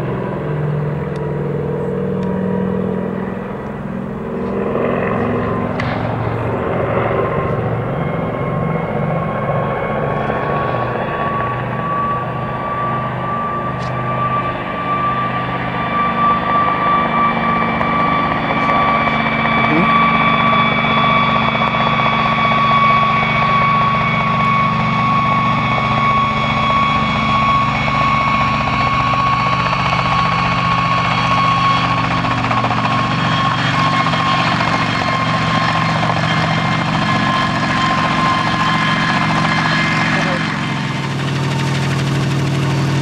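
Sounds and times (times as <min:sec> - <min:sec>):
helicopter hovering: 0:00.0 - 0:43.0.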